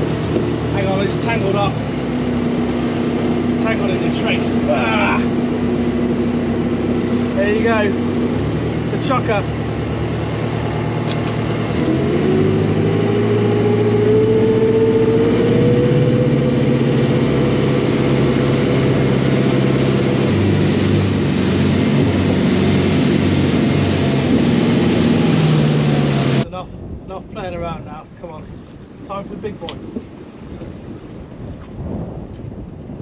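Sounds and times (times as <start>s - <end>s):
motor boat engine running: 0.0s - 33.0s.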